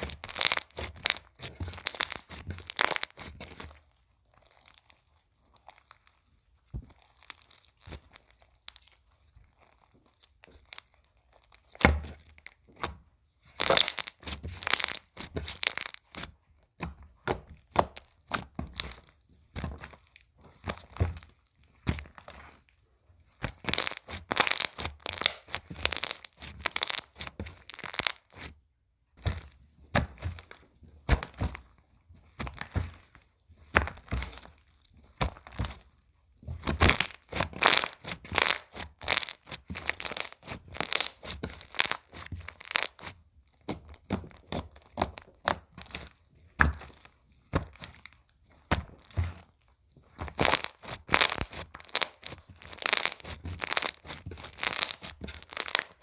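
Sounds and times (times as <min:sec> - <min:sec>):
slime crackling and popping: 0:00.0 - 0:12.9, 0:13.5 - 0:22.3, 0:23.4 - 0:28.6, 0:29.2 - 0:35.9, 0:36.5 - 0:56.0.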